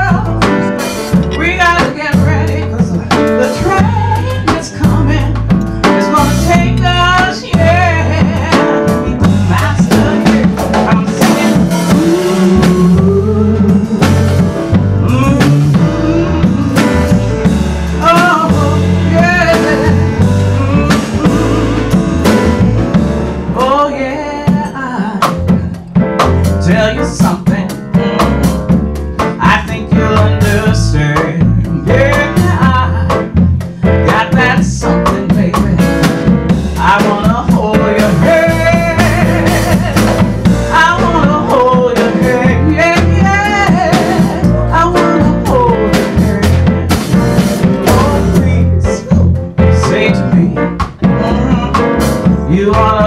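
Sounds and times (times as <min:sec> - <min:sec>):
woman singing: 0:00.0 - 0:25.8, 0:26.5 - 0:28.2, 0:29.4 - 0:47.1, 0:47.8 - 0:53.0
drum kit: 0:00.0 - 0:53.0
grand piano: 0:00.0 - 0:53.0
low accompaniment line: 0:00.0 - 0:53.0.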